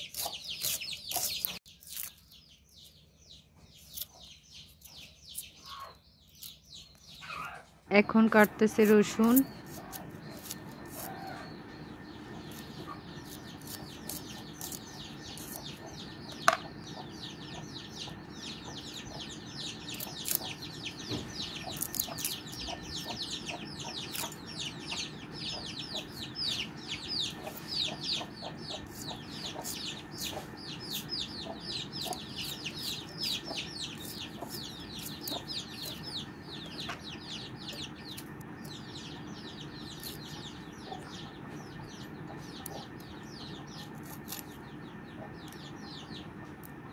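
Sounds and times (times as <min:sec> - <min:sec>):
birds chirping: 0:00.0 - 0:46.9.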